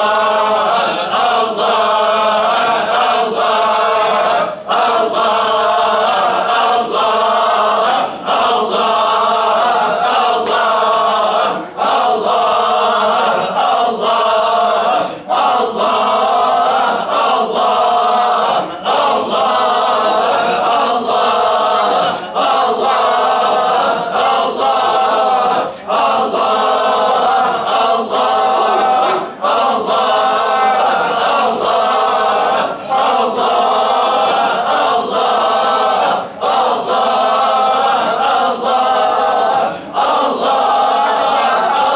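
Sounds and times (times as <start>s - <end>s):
men chanting in unison: 0.0s - 41.9s.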